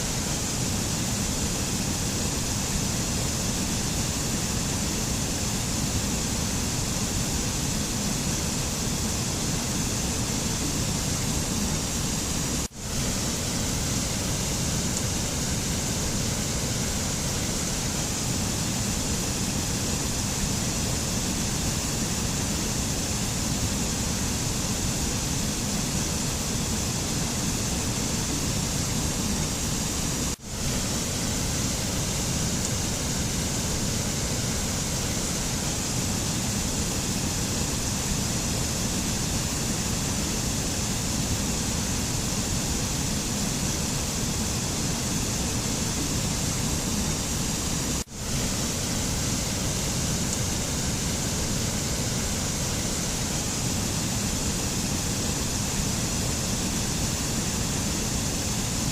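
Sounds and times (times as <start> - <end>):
steady rushing water: 0.0 - 58.9.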